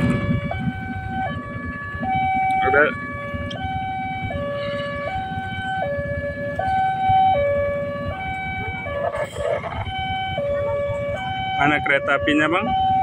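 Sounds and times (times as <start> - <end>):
two-tone crossing alarm: 0.0 - 13.0.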